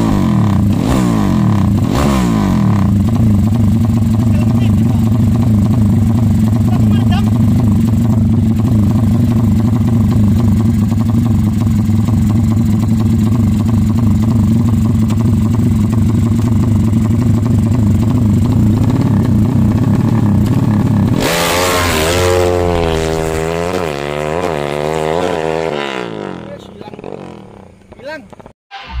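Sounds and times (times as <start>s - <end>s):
motorcycle engine revving: 0.0s - 28.5s.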